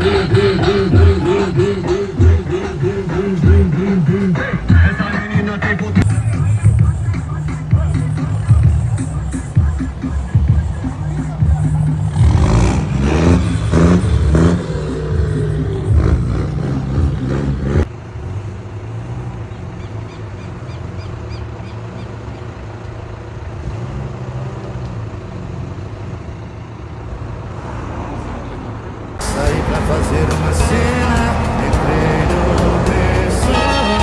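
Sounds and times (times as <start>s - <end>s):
engine revving: 0.0s - 34.0s
truck engine running: 0.0s - 34.0s.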